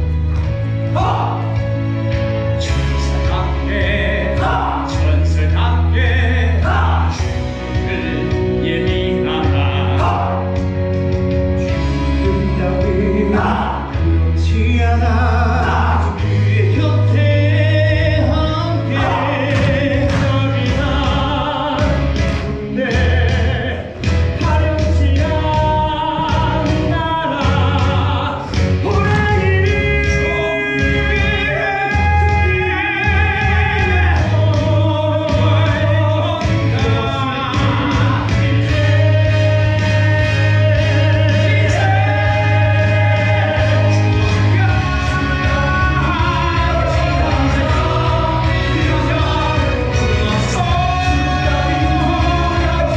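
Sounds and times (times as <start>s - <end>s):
heavy bass line accompaniment: 0.0s - 52.9s
male group singing show tune: 0.9s - 1.7s, 2.6s - 10.9s, 11.6s - 52.9s.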